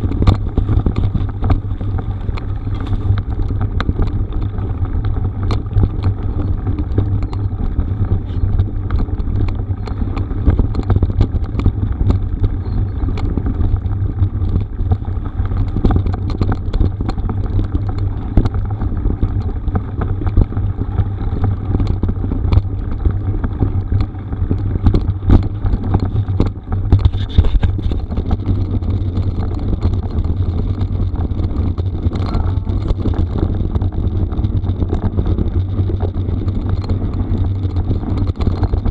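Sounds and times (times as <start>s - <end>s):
bike rattling over gravel: 0.0s - 38.9s
wind buffeting microphone: 0.0s - 38.9s.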